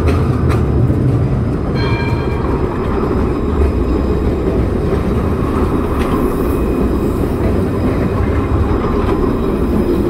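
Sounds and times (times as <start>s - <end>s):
tram wheels rolling rumble: 0.0s - 10.0s.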